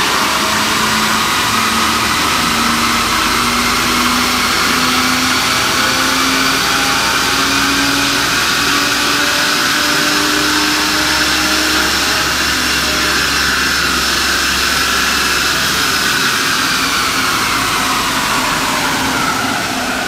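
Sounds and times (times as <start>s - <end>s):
car engine running hard: 0.0s - 20.0s
tyres spinning dyno roller: 0.0s - 20.0s.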